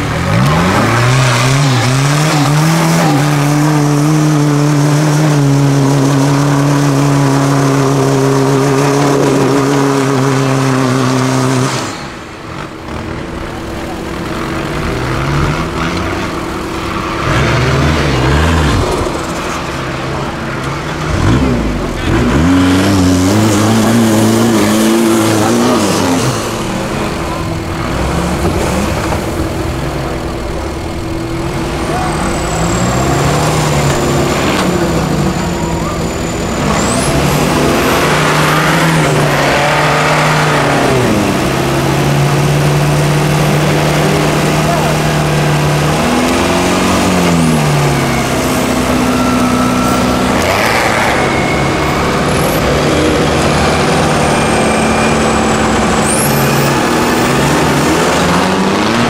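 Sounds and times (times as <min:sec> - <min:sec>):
off-road vehicle engines revving: 0:00.0 - 0:59.0.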